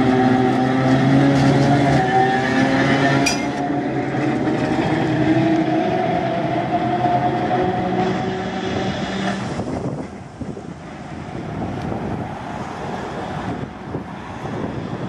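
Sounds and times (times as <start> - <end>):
electric streetcar hum: 0.0 - 15.0
wheels rumbling on track: 0.0 - 15.0.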